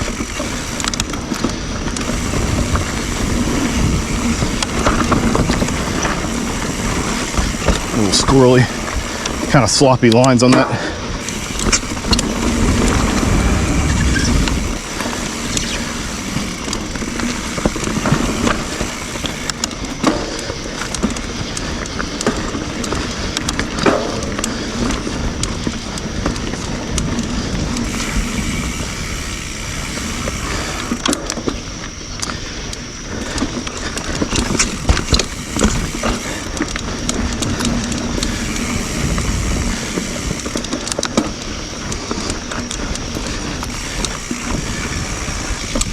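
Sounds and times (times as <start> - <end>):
bike knocks and rattles: 0.0 - 45.9
bike tyre noise on dirt trail: 0.0 - 45.9.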